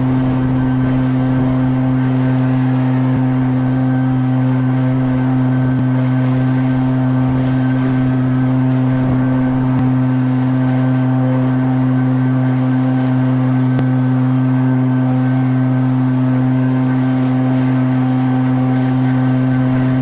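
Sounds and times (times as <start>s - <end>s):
leaf blower engine drone: 0.0s - 20.0s.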